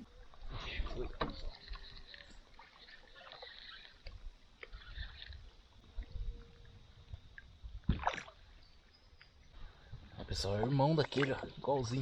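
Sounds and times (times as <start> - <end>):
water sounds: 0.0 - 12.0.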